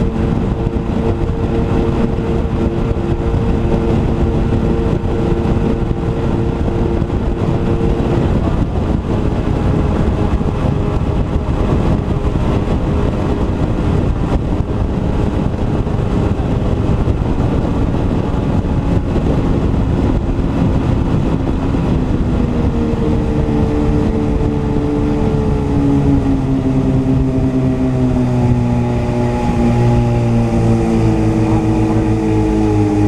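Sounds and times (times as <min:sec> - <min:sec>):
boat engines running: 0:00.0 - 0:33.0
rush of wind and water: 0:00.0 - 0:33.0.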